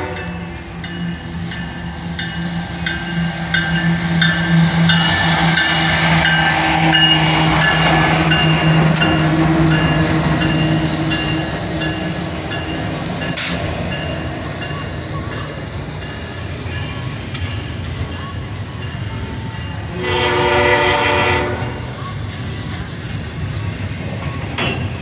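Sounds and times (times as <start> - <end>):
crossing bell ringing: 0.0 - 22.3
diesel locomotives droning: 0.0 - 25.0
freight cars rumbling over rails: 0.0 - 25.0.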